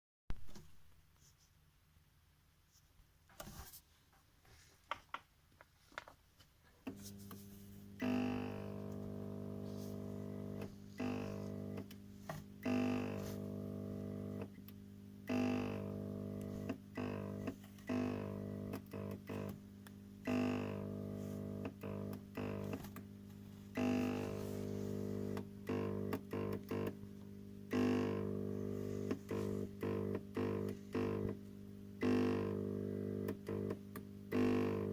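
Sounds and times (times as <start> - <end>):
fluorescent tube electrical buzz: 6.8 - 34.9.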